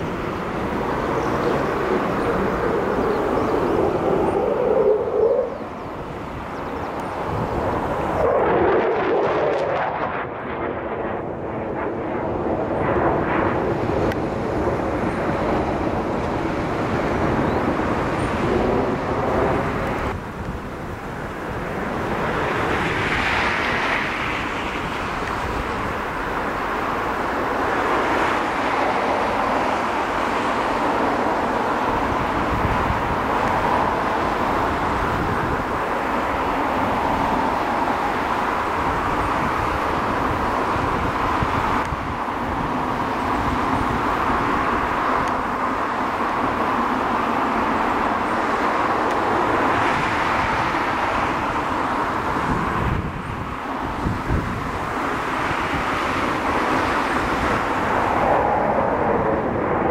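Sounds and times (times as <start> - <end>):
jet engine roar: 0.0 - 59.9.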